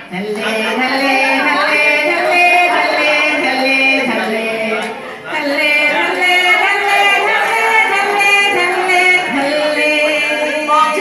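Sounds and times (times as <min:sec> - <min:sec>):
women singing in unison: 0:00.0 - 0:11.0.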